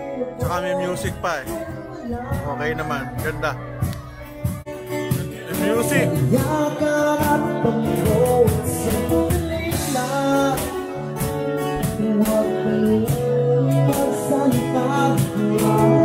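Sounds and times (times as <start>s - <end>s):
man singing into microphone: 0.0s - 3.8s, 4.9s - 16.0s
acoustic guitars strummed: 0.0s - 16.0s.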